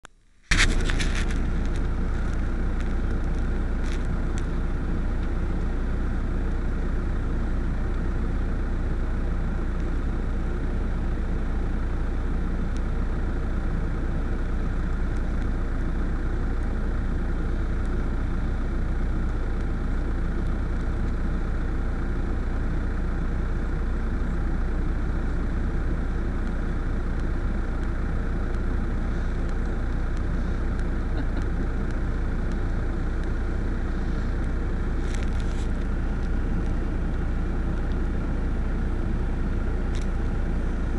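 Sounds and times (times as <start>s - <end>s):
steady low rumble: 0.1s - 40.9s.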